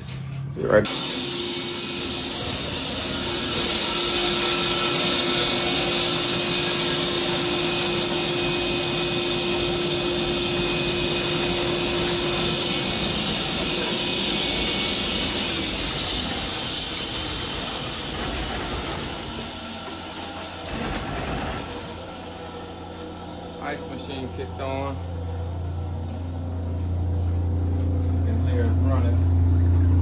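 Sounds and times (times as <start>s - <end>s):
low hum: 0.0s - 30.0s
vending machine whirring: 0.0s - 30.0s.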